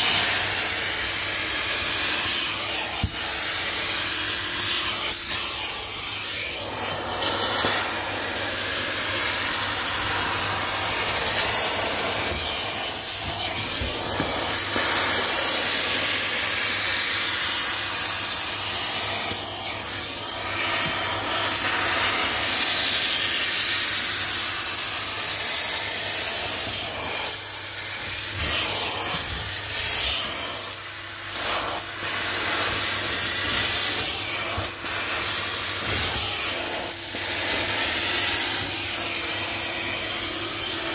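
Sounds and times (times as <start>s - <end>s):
carpet cleaner spraying and sucking water: 0.0s - 40.9s.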